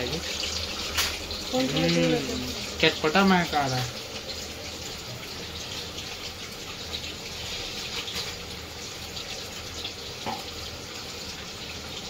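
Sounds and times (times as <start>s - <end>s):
deep-frying oil sizzling: 0.0s - 12.0s.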